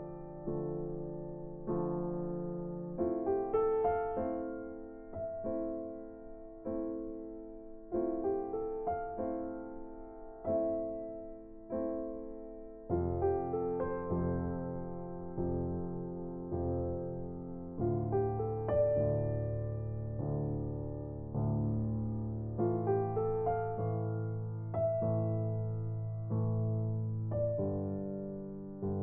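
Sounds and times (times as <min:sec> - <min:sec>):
slow gentle piano music: 0:00.0 - 0:29.0.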